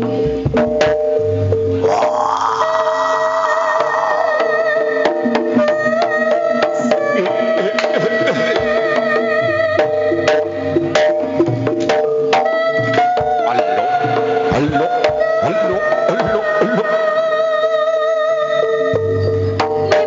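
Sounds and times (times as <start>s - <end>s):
hand drum strikes: 0.4s - 16.8s.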